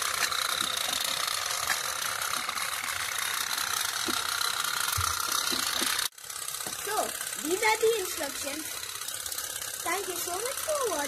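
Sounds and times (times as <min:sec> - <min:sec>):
toy steam boats ticking buzz: 0:00.0 - 0:11.0.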